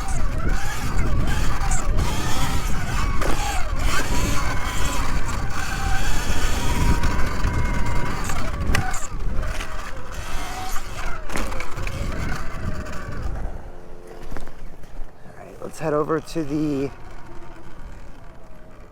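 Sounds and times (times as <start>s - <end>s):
bike running over rough ground: 0.0s - 18.9s
electric motorbike motor whining: 0.0s - 18.9s
wind rumble: 0.0s - 18.9s.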